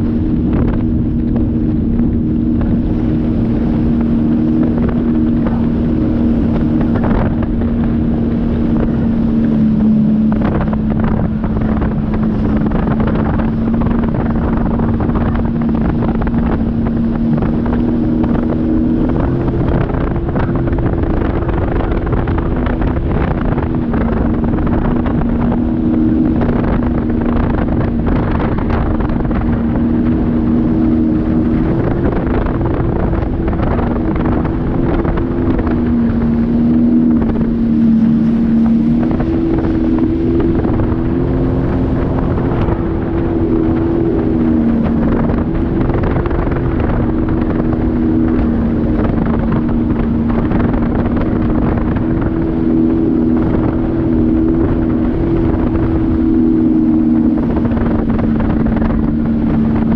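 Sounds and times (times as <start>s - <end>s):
personal watercraft engine running: 0.0s - 59.9s
wind noise on microphone: 0.0s - 59.9s.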